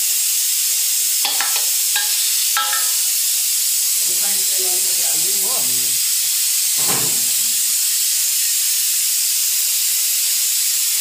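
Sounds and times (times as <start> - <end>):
loud steady hiss: 0.0 - 11.0.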